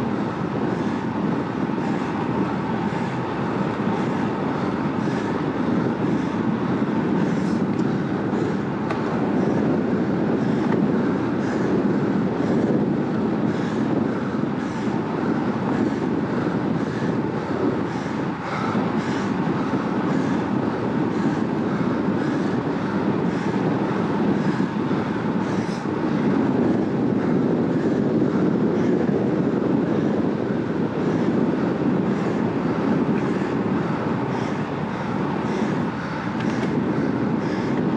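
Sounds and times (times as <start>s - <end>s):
tyre noise on asphalt: 0.0s - 37.9s
wind rushing over microphone: 0.0s - 37.9s.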